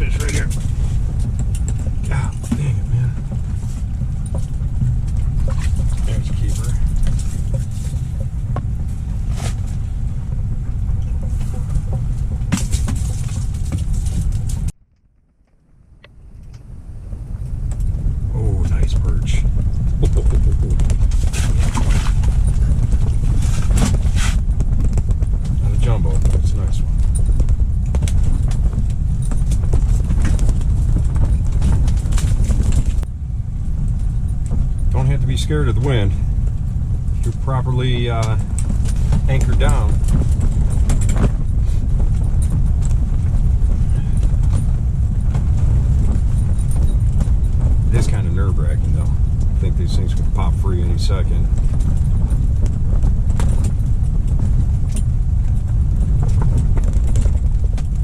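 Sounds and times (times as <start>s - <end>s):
sharp knocks and rattles: 0.0s - 14.7s, 17.4s - 33.1s, 33.9s - 58.0s
wind buffeting microphone: 0.0s - 14.8s, 15.7s - 58.0s.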